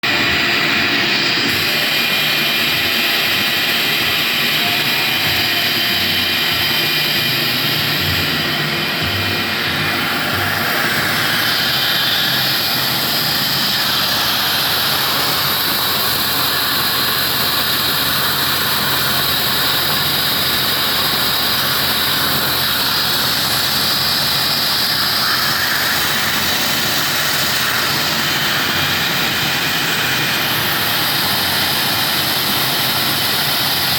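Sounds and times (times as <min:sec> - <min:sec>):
milling machine cutting metal: 0:00.0 - 0:33.9.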